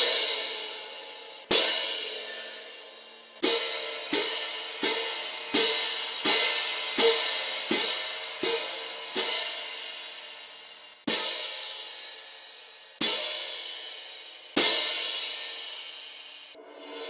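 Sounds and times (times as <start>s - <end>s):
cymbal crashes: 0.0s - 12.4s, 13.0s - 17.0s.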